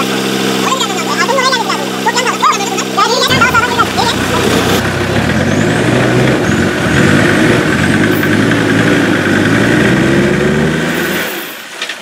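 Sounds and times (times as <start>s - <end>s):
diesel truck engine in mud: 0.0s - 12.0s.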